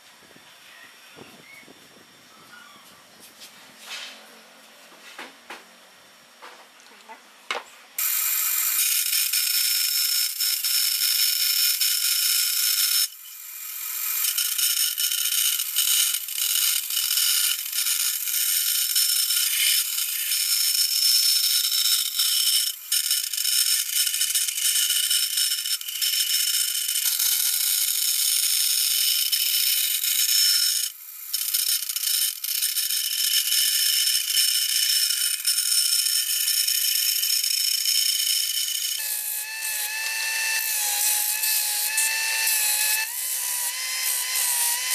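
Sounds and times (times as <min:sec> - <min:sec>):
bandsaw cutting wood: 0:08.0 - 0:44.9.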